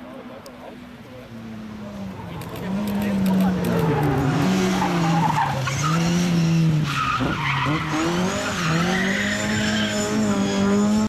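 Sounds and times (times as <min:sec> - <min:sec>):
rally car engine revving: 0:01.5 - 0:11.0
tyres skidding on tarmac: 0:01.8 - 0:11.0.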